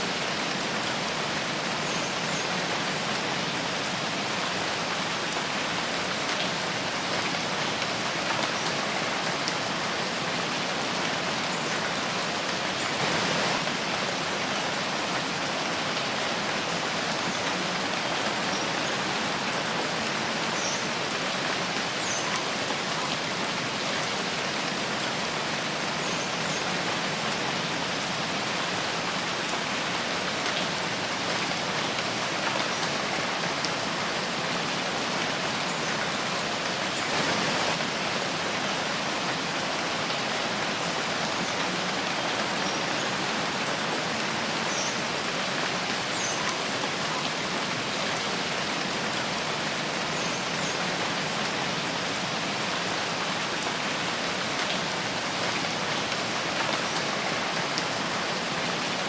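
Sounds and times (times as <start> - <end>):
rain falling in a forest: 0.0 - 59.0.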